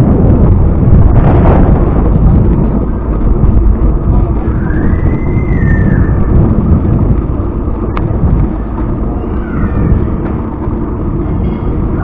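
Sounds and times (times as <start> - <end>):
faint whine: 0.0 - 12.0
wind buffeting microphone: 0.0 - 12.0.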